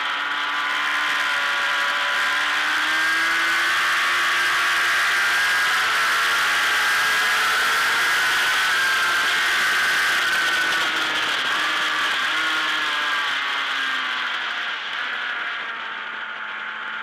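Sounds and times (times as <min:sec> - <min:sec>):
motorcycle engine at speed: 0:00.0 - 0:17.0.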